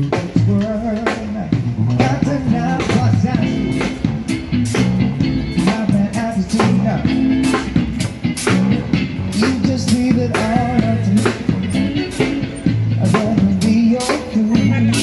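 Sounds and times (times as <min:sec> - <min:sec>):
drum kit steady beat: 0:00.0 - 0:15.0
electric guitar: 0:00.0 - 0:15.0.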